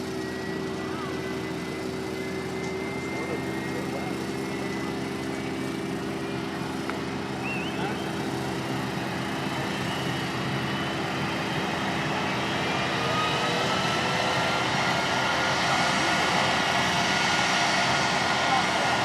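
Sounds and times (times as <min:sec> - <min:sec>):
jet engine roaring and whining: 0:00.0 - 0:19.0.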